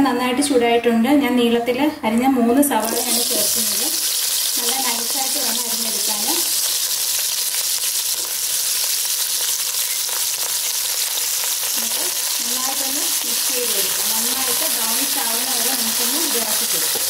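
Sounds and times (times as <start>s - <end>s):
onions sizzling in oil: 2.8s - 17.0s.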